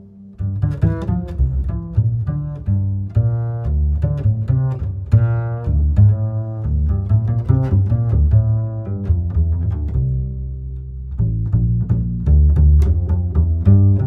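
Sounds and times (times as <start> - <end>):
low strings music: 0.0 - 14.0
plucked bass notes: 0.0 - 14.0.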